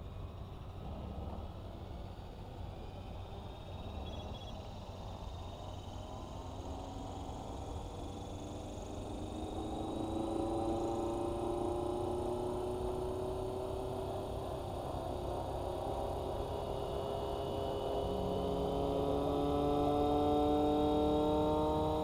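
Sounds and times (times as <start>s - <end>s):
rc helicopter motor whine: 0.0s - 22.0s.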